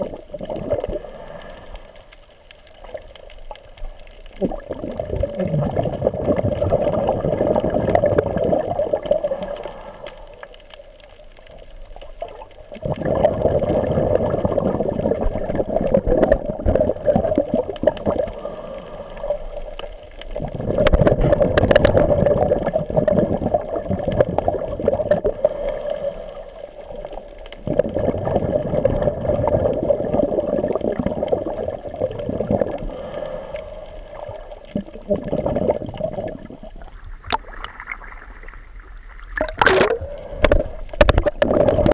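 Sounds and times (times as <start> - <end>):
underwater bubbling and gurgling: 0.0 - 41.9.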